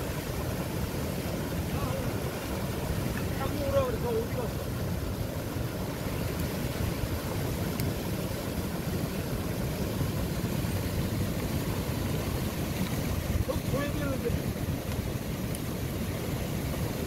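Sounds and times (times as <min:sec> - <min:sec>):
surf breaking on pebble shore: 0:00.0 - 0:17.0
wind rumble on microphone: 0:00.0 - 0:17.0.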